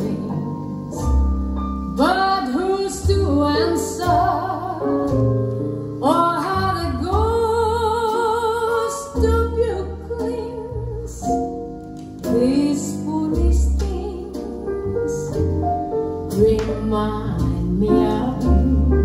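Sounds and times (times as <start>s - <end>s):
bass and instrumental accompaniment: 0.0s - 19.0s.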